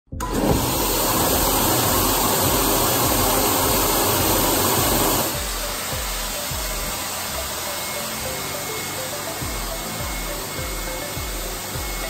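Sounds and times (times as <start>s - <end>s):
background music with a beat: 0.1s - 12.0s
air blower rushing: 0.2s - 12.0s.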